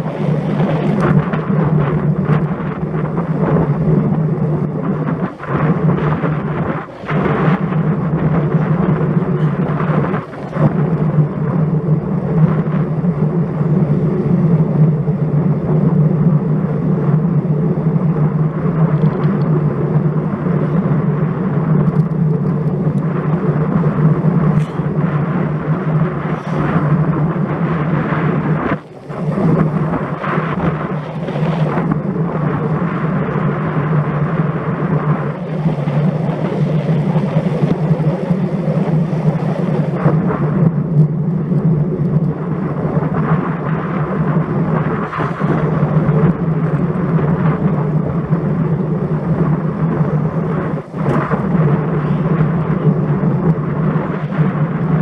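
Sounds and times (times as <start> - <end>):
road noise: 0.0 - 15.6, 16.5 - 55.0
wind buffeting microphone: 0.0 - 55.0.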